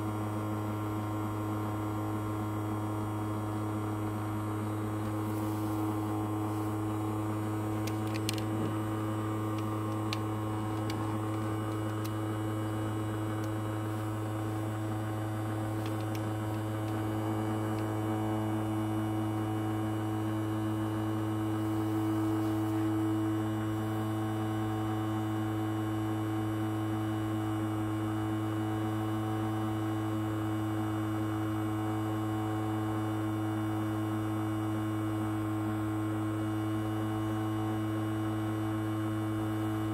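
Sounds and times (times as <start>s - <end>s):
ultrasonic cleaner buzzing hum: 0.0s - 39.9s.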